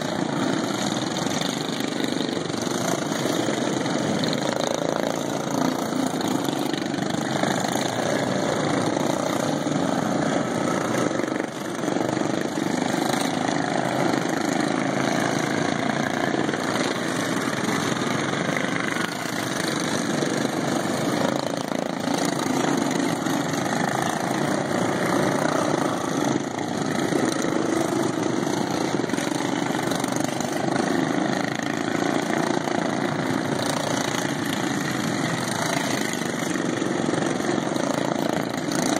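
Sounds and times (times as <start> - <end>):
racing lawn mower engines: 0.0 - 38.9.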